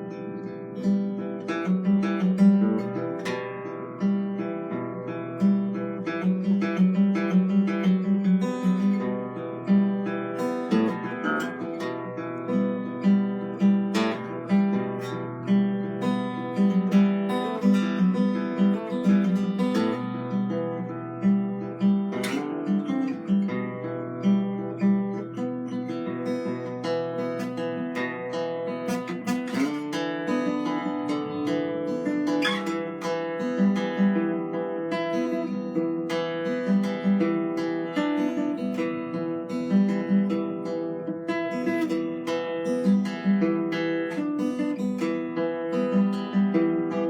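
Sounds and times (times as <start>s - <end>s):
acoustic guitar music: 0.0s - 47.0s.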